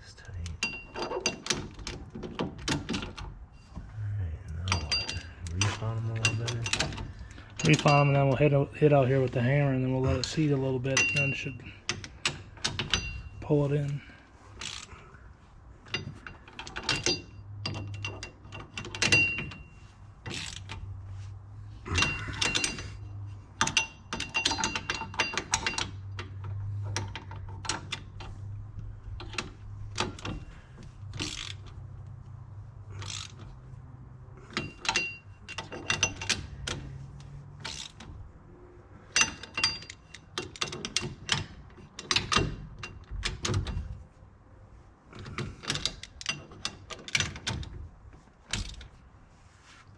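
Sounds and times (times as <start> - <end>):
metal clanks: 0.5 - 3.9, 4.6 - 14.9, 15.8 - 20.8, 21.8 - 28.4, 29.0 - 31.9, 34.4 - 38.3, 39.0 - 44.0, 45.1 - 49.0.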